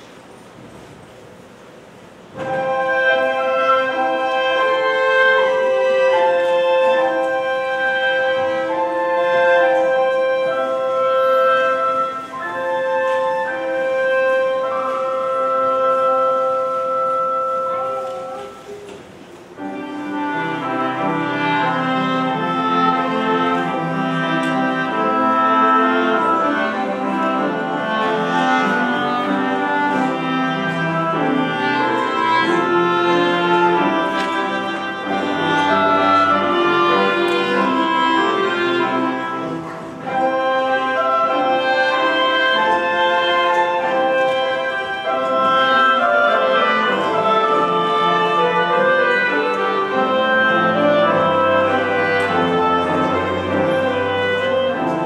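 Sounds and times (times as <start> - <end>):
cello: 2.3 - 55.0
clarinet: 2.3 - 55.0.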